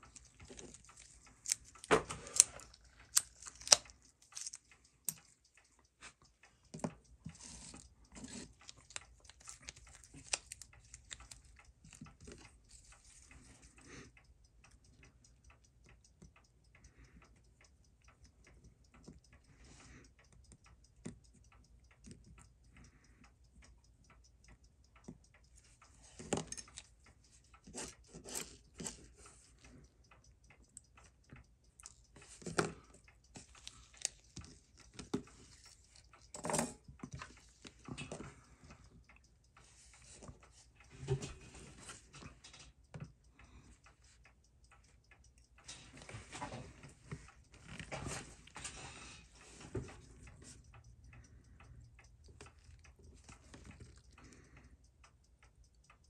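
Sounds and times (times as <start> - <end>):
small tool clicks and taps: 0.0 - 54.7.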